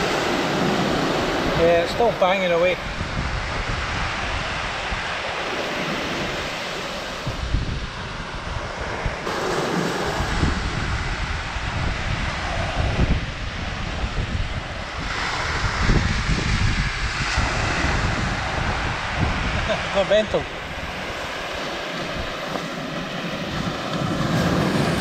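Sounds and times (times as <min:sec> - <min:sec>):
surf washing onto sand: 0:00.0 - 0:25.0
wind rumbling on microphone: 0:00.0 - 0:25.0.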